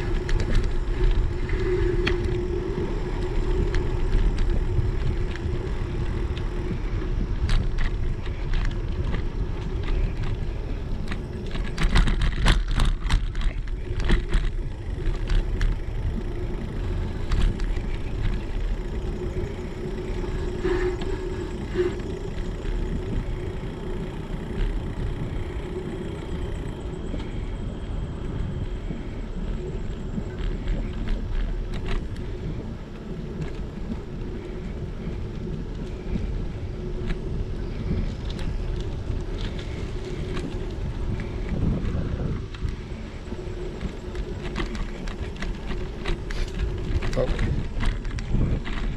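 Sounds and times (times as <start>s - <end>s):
bicycle tyre noise: 0.0s - 48.9s
sharp clicks and rattles: 0.0s - 48.9s
wind rumble on microphone: 0.0s - 48.9s.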